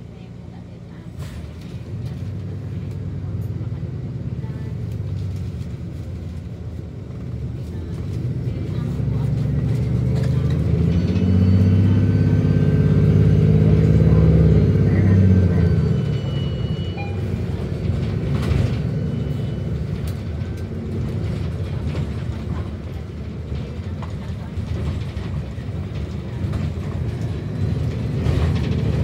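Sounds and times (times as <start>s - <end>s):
bus engine drone: 0.0s - 29.0s
road noise: 0.0s - 29.0s.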